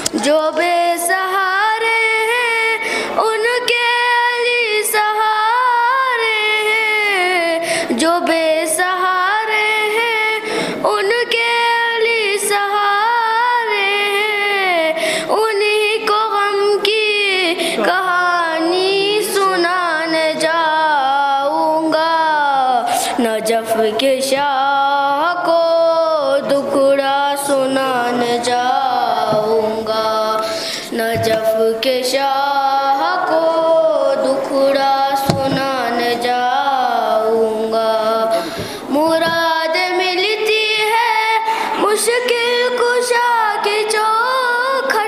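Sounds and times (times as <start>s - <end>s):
person singing unaccompanied: 0.0s - 45.0s.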